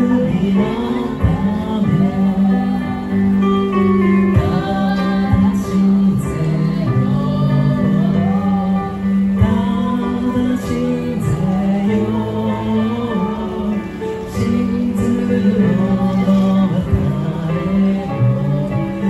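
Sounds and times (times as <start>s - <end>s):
electronic keyboard chords: 0.0s - 19.0s
man singing into a microphone: 0.0s - 19.0s.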